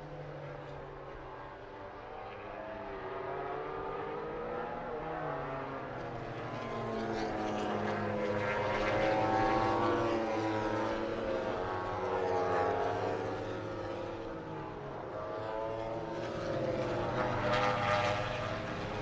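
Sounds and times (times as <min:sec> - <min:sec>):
racing motorcycle engines: 0:00.0 - 0:19.0.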